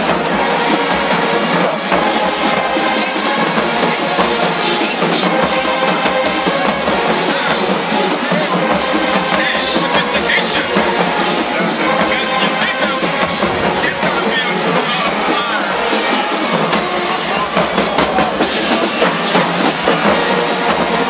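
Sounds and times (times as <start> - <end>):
drums: 0.0 - 21.0
marching band playing: 0.0 - 21.0.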